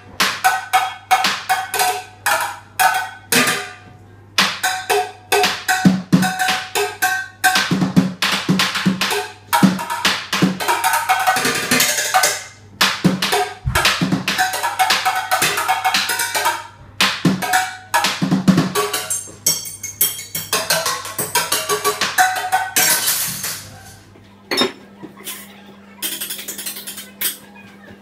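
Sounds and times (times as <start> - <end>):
drumming on kitchen pots: 0.2 - 3.8, 4.4 - 25.4, 26.0 - 27.4.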